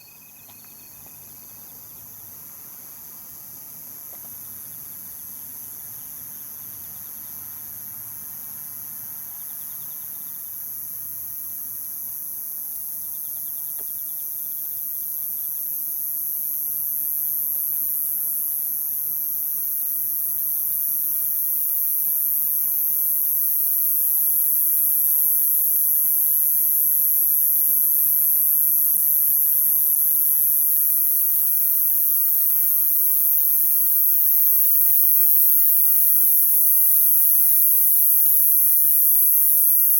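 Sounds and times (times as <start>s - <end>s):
insects chorus: 0.0s - 11.2s, 11.8s - 39.9s.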